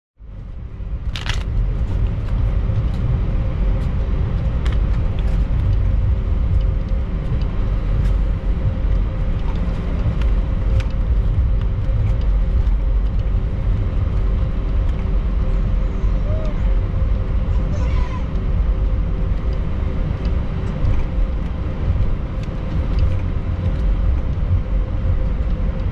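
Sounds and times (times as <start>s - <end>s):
aircraft cabin rumble: 0.2s - 25.9s.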